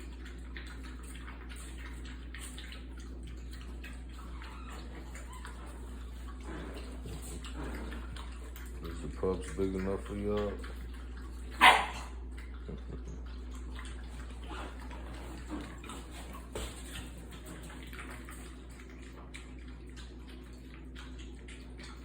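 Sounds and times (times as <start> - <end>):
puppies eating and lapping: 0.0 - 22.0.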